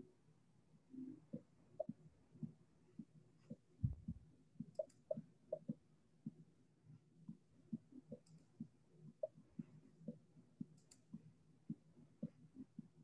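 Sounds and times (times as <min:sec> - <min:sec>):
faint clicks and taps: 0:01.1 - 0:06.5, 0:07.2 - 0:13.0.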